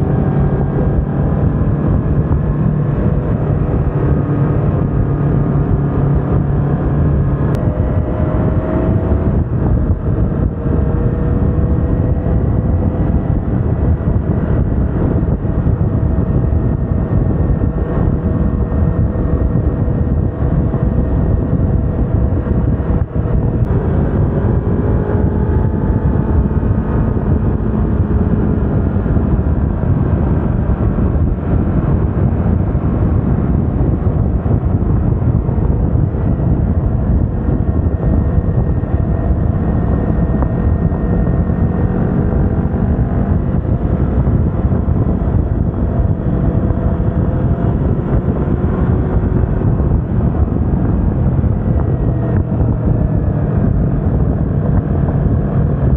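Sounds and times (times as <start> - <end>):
motorcycle engine running: 0.0 - 55.9
wind rumble on microphone: 0.0 - 55.9.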